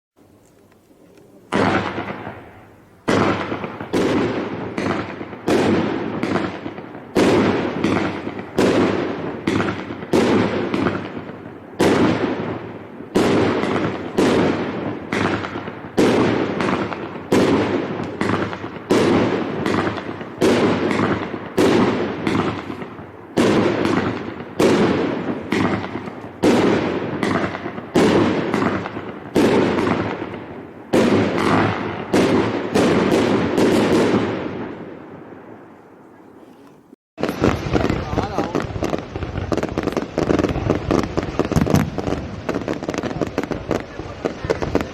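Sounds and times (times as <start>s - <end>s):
firework bangs with rumble: 1.5s - 35.0s, 37.2s - 44.9s.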